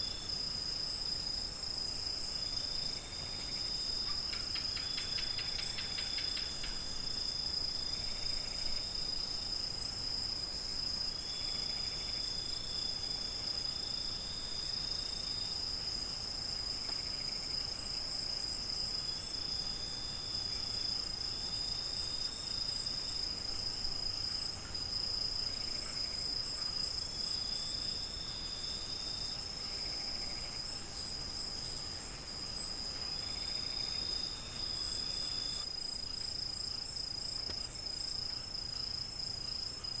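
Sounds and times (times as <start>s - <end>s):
crickets trilling: 0.0s - 40.0s
lower cricket trill: 0.0s - 40.0s.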